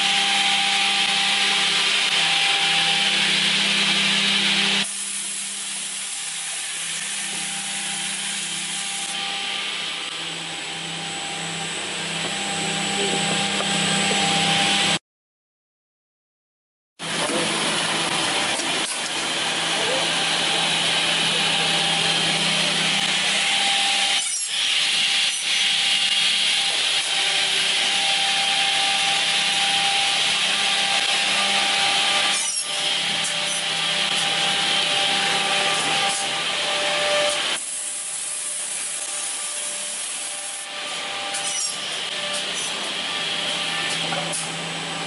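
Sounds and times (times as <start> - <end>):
edge banding machine running: 0.0 - 15.0, 17.0 - 45.0.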